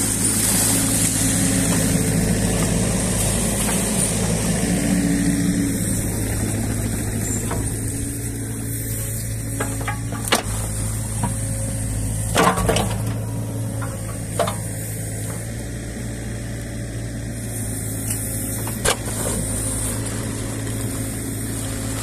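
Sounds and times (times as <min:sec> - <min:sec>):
excavator diesel engine: 0:00.0 - 0:22.0
hydraulics moving bucket: 0:00.1 - 0:15.8, 0:17.6 - 0:22.0.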